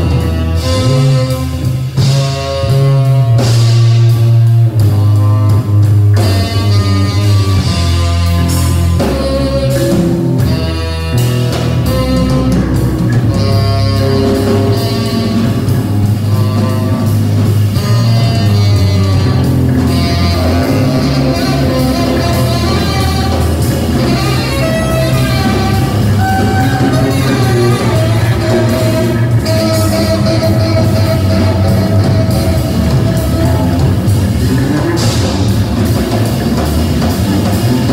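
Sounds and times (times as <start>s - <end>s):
amplified bass line: 0.0s - 37.9s
drum kit: 0.0s - 37.9s
saxophone: 0.0s - 37.9s.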